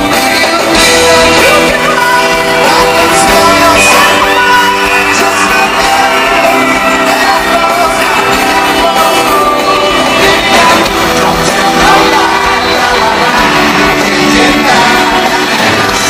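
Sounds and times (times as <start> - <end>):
electric guitar: 0.0 - 16.0
man singing lead vocal: 0.0 - 16.0
rock band playing: 0.0 - 16.0
shouted voices: 1.2 - 16.0.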